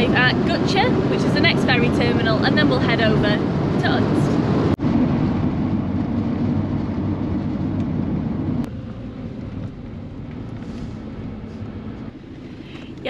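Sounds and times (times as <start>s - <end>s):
van road and engine noise: 0.0s - 13.0s.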